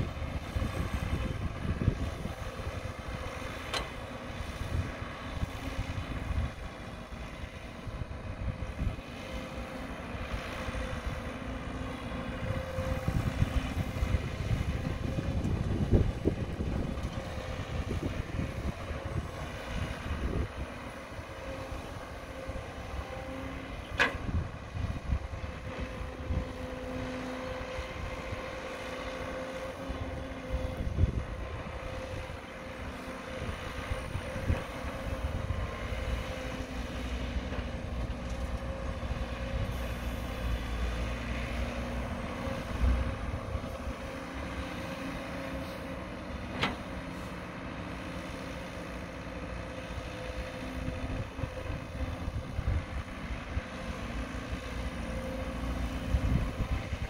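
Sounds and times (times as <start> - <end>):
excavator engine hum: 0.0 - 57.0.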